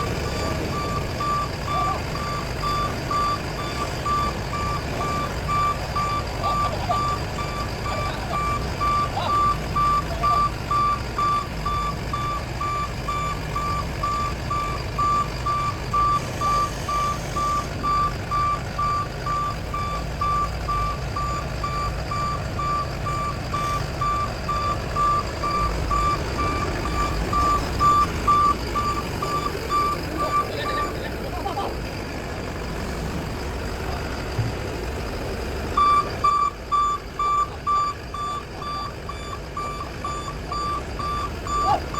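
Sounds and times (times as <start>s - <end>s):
backup alarm beeping: 0.0s - 31.8s, 35.7s - 41.9s
machine engine rumbling: 0.0s - 41.9s.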